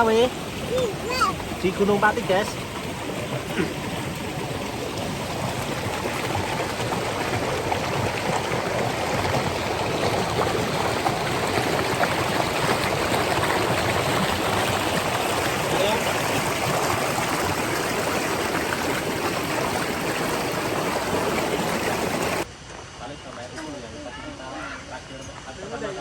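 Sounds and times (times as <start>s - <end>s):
flowing stream water: 0.0s - 22.5s.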